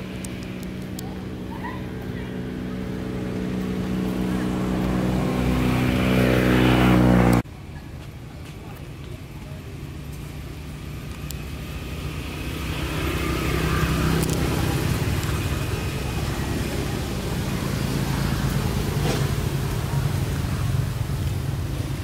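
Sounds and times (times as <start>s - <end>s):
vehicle engine running: 0.0s - 7.4s, 8.5s - 22.0s.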